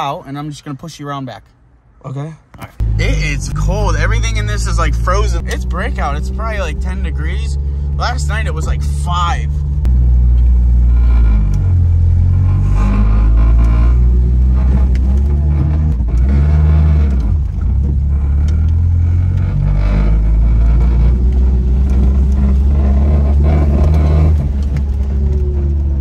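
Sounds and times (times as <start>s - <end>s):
vehicle engine rumbling: 2.6s - 26.0s.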